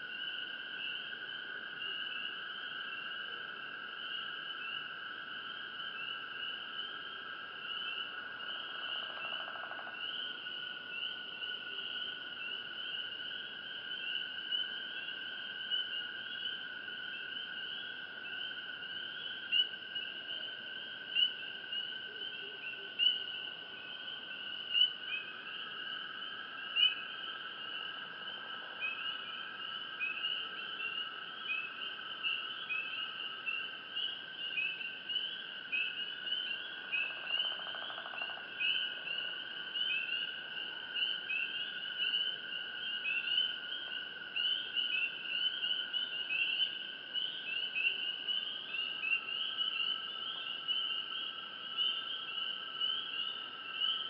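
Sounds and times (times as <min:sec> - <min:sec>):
crickets chirping: 0:00.0 - 0:54.0
insects trilling: 0:00.0 - 0:54.0.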